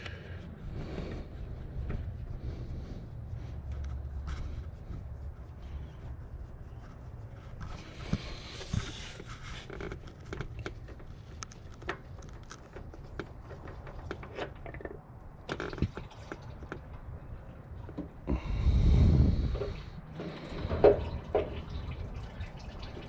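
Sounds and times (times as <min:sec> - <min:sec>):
hand clicking and scraping in engine bay: 0:00.0 - 0:22.0.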